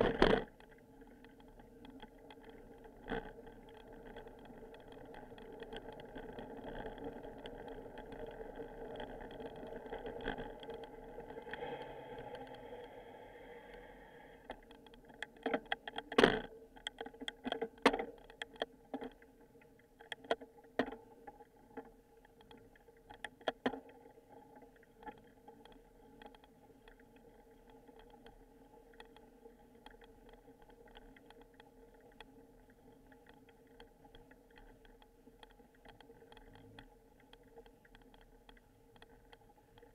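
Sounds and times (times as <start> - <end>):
bicycle rolling hum: 0.0 - 39.9.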